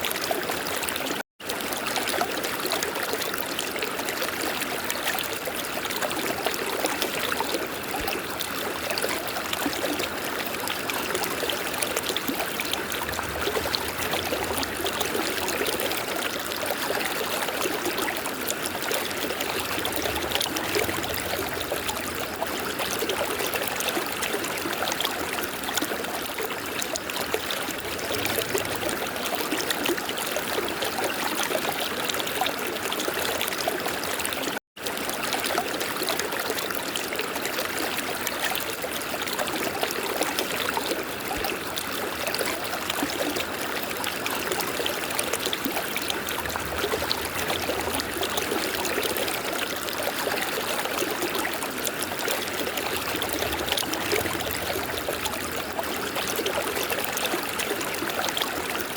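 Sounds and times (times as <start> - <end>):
river water babbling over rocks: 1.7 - 31.0, 38.0 - 58.9.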